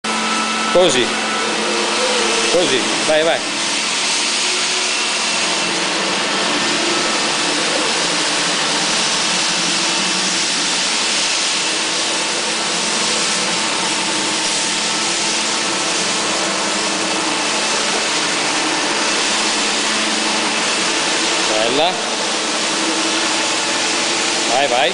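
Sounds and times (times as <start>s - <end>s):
floor scrubber motor running: 0.1s - 24.9s.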